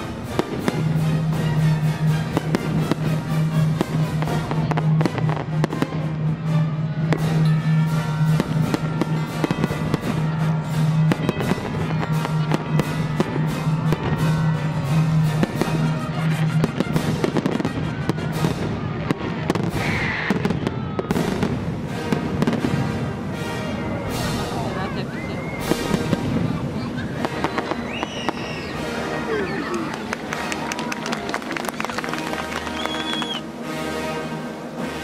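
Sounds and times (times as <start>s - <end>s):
fireworks bursting and crackling: 0.0s - 35.0s
music: 0.0s - 35.0s.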